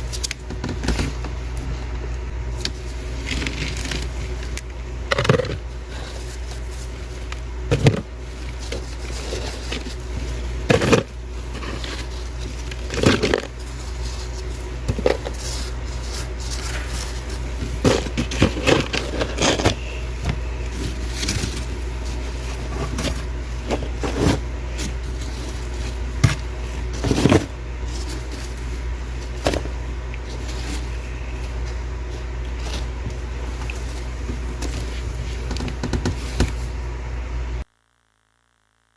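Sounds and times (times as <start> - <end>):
steady low hum: 0.0 - 38.9
freezer frost crunching: 2.4 - 36.7.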